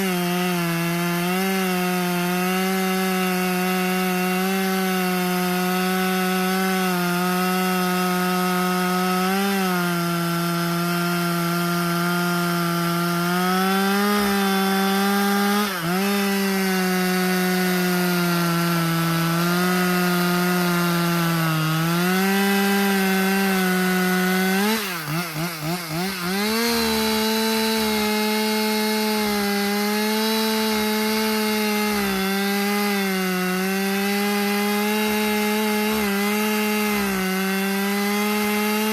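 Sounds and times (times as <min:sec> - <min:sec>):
chainsaw cutting wood: 0:00.0 - 0:38.9
chainsaw throttle blips: 0:00.0 - 0:38.9.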